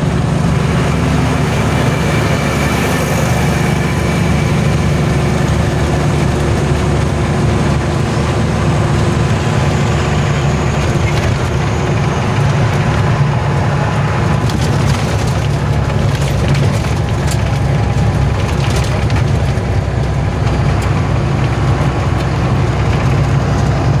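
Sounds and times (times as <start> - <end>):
heavy truck engine droning: 0.0 - 24.0.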